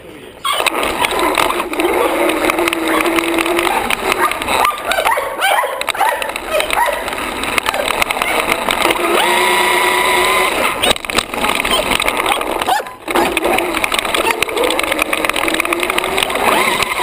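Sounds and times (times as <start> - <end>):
chassis rattling over paving: 0.5 - 17.0
electric motor whining: 0.5 - 17.0.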